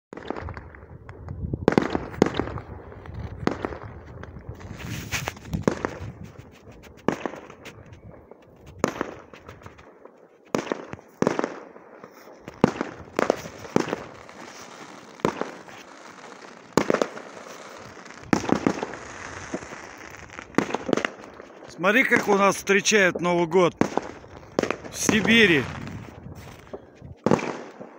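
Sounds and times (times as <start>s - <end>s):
fireworks bangs: 0.1s - 27.9s.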